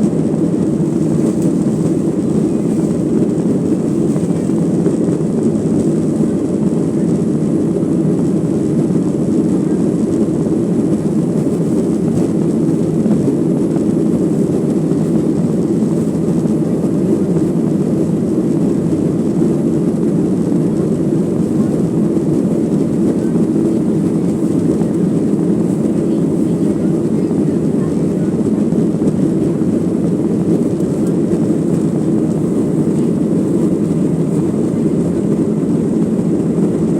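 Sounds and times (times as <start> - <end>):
aircraft cabin low roar: 0.0 - 36.9.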